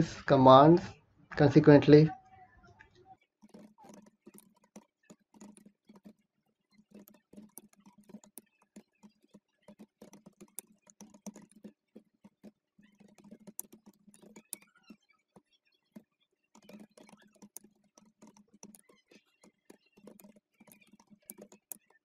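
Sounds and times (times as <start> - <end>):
computer keyboard typing: 3.2 - 22.0.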